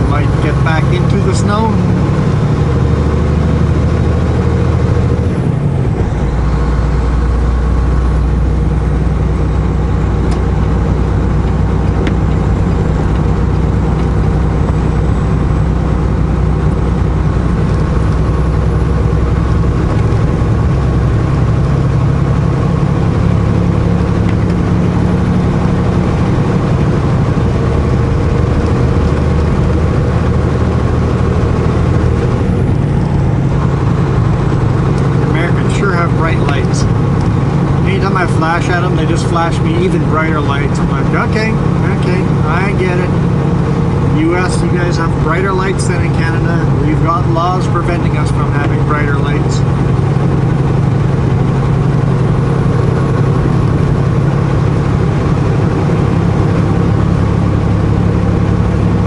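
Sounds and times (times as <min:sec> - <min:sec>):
diesel truck engine running: 0:00.0 - 0:59.0
road noise: 0:00.0 - 0:59.0.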